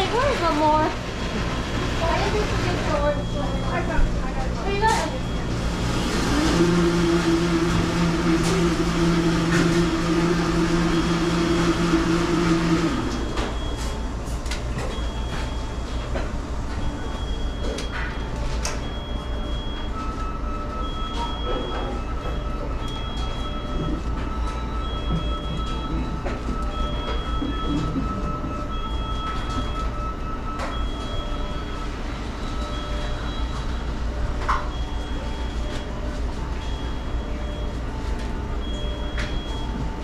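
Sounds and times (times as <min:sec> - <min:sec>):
steady machine hum: 0:00.0 - 0:40.0.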